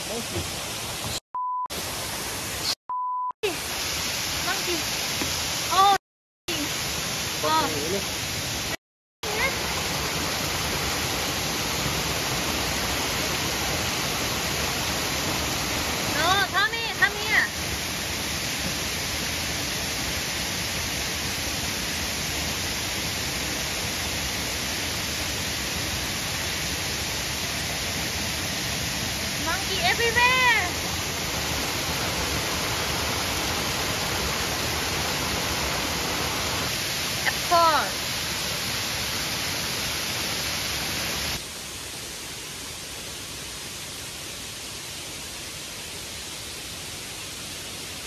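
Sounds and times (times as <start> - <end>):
waterfall rushing: 3.4 - 48.0.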